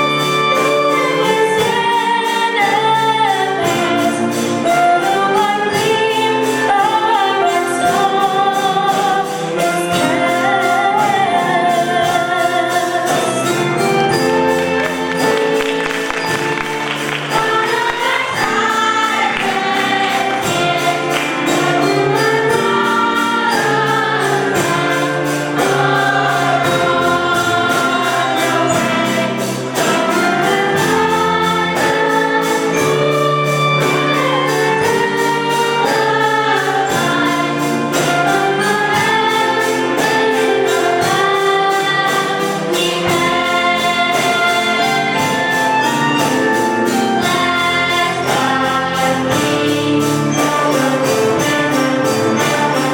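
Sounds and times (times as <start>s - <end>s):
choir singing gospel: 0.0s - 52.9s
instrumental accompaniment with beat: 0.0s - 52.9s.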